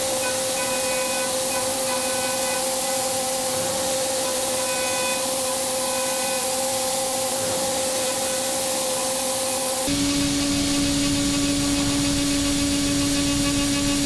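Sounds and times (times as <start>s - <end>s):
milling machine spindle whine: 0.0s - 14.0s.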